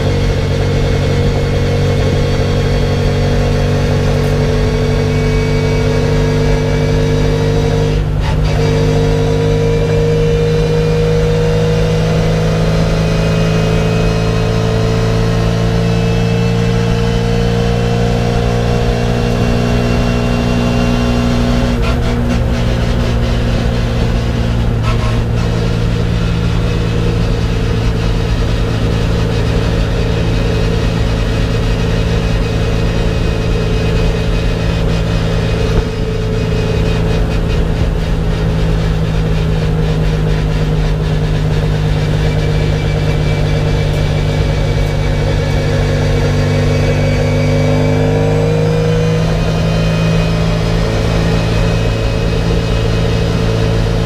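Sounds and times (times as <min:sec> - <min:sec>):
car engine drone from cabin: 0:00.0 - 0:54.0.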